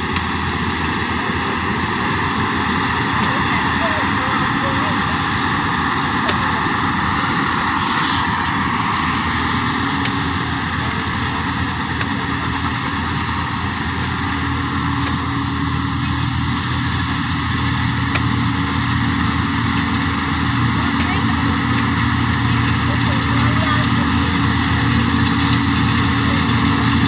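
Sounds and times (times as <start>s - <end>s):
combine harvester running: 0.0s - 27.0s.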